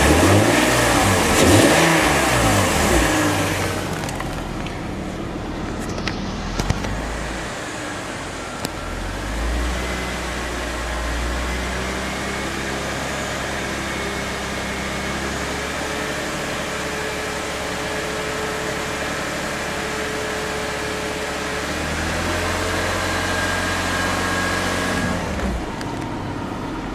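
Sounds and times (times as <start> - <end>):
car engine running cold: 0.0 - 26.9.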